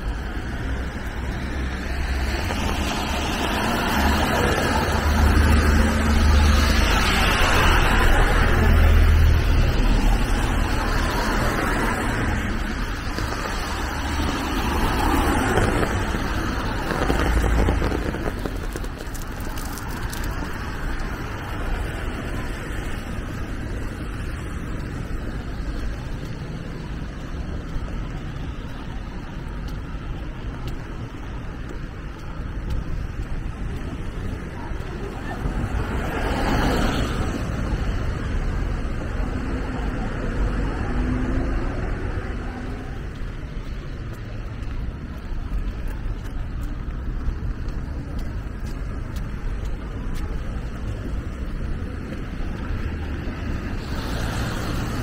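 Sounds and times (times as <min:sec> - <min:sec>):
traffic on a wet street: 0:00.0 - 0:55.0.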